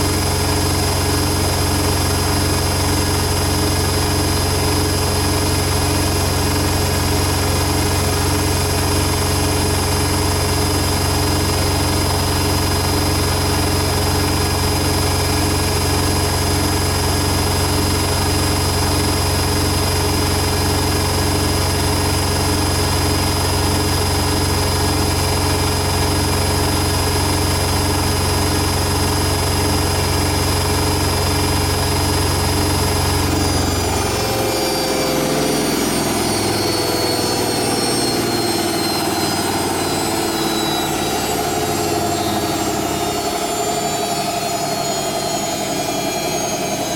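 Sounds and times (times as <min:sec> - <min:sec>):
washing machine spinning: 0:00.0 - 0:46.9.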